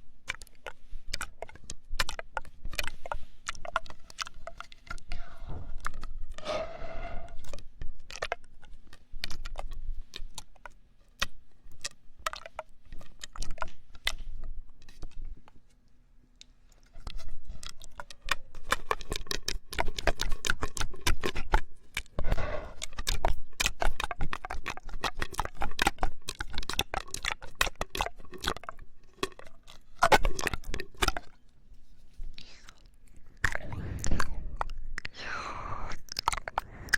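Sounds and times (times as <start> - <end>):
popping candy crackling in mouth: 0.0 - 15.4, 16.4 - 36.9.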